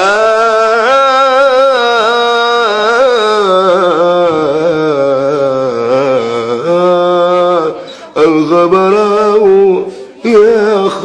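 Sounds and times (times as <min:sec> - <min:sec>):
man singing: 0:00.0 - 0:11.0.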